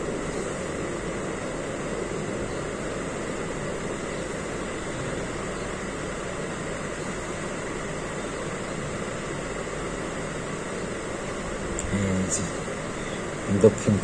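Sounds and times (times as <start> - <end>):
steady hum and hiss: 0.0 - 14.0.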